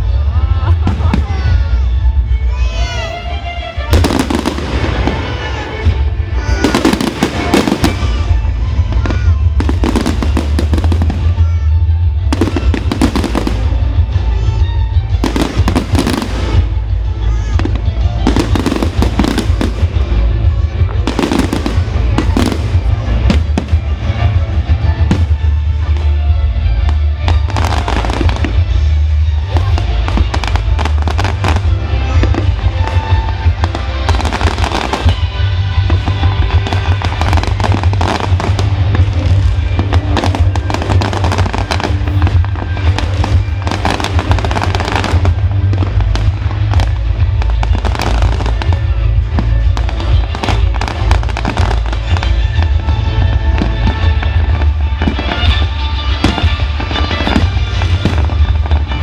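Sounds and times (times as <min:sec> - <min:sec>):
fireworks bangs and crackling: 0:00.0 - 0:59.0
low rumble: 0:00.0 - 0:59.0
music: 0:00.0 - 0:59.0.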